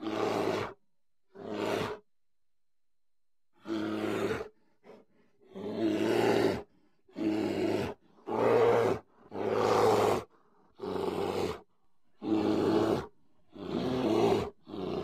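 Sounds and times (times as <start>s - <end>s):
polar bear roaring: 0.0s - 2.0s, 3.6s - 4.6s, 5.4s - 15.0s.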